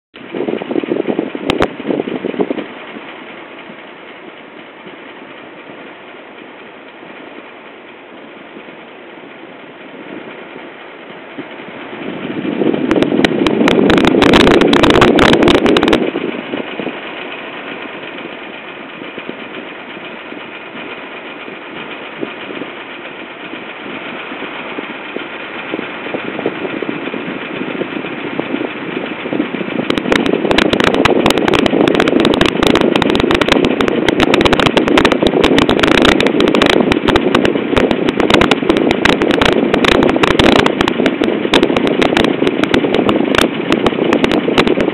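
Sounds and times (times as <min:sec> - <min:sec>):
air conditioner rattling buzz: 0:00.2 - 0:44.9.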